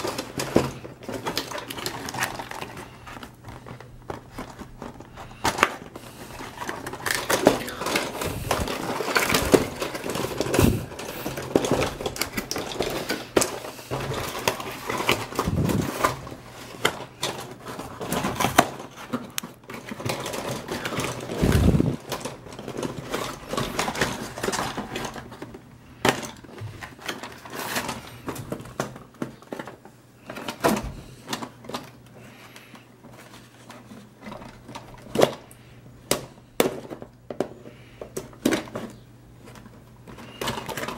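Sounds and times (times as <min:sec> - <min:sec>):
plastic toy figures clacking: 0:00.0 - 0:40.9.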